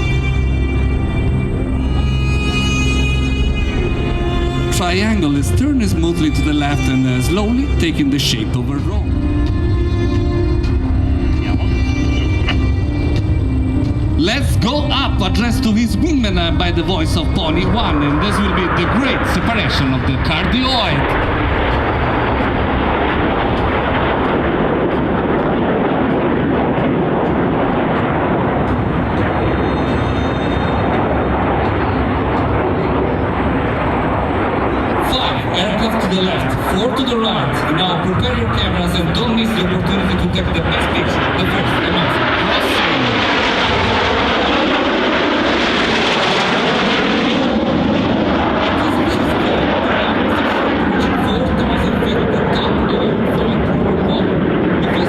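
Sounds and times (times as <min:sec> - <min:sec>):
jet aircraft rushing: 0:00.0 - 0:55.0.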